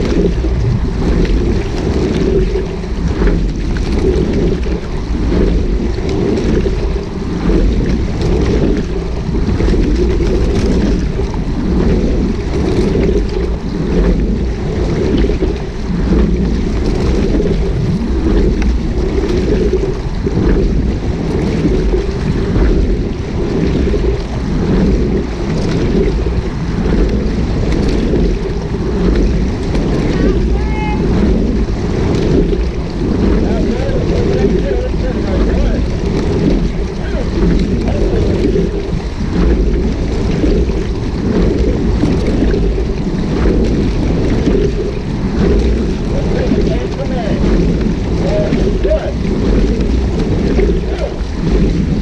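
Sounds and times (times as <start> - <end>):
water rushing past hull: 0.0 - 52.0
wind rumbling on microphone: 0.0 - 52.0.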